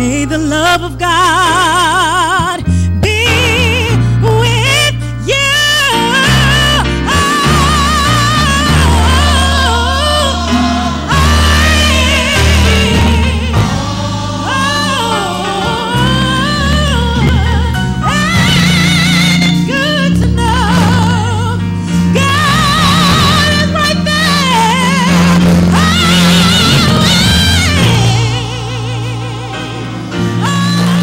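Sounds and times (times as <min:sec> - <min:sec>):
woman singing gospel: 0:00.0 - 0:31.0
low accompaniment notes: 0:05.8 - 0:31.0.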